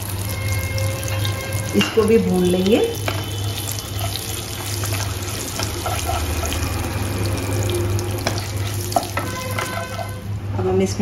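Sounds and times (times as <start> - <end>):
spices sizzling in oil: 0.0 - 10.4.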